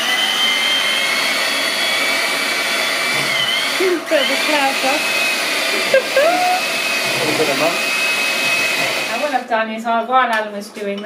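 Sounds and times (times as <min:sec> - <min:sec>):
electric hand mixer whining: 0:00.0 - 0:09.5.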